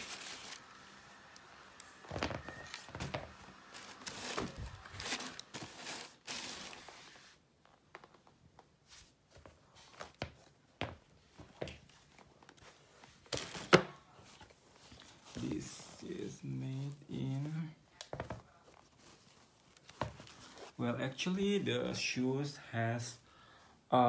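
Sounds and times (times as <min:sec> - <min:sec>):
fabric and packaging rustling: 0:00.0 - 0:20.9.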